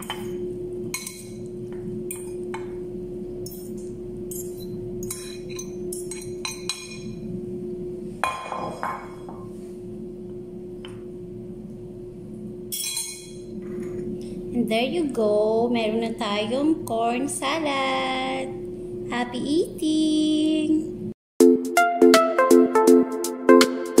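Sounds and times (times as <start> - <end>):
low steady hum: 0.0 - 21.2.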